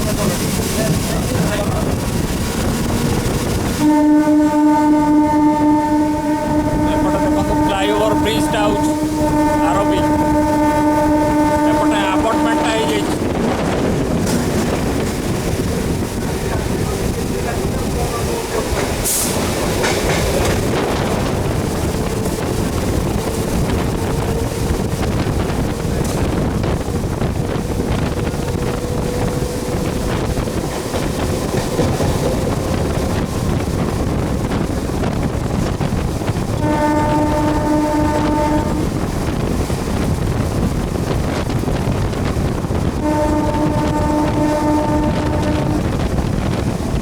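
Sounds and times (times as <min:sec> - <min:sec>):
electric train rumbling on track: 0:00.0 - 0:47.0
train horn blast: 0:01.7 - 0:47.0.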